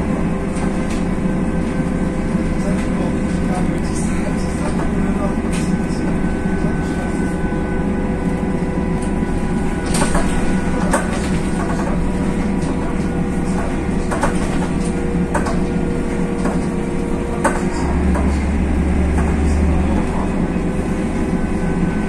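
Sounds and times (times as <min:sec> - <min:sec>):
rattles and clicks from bus body: 0:00.0 - 0:07.4, 0:08.1 - 0:22.0
bus diesel engine drone: 0:00.0 - 0:22.0
road rumble: 0:00.0 - 0:22.0.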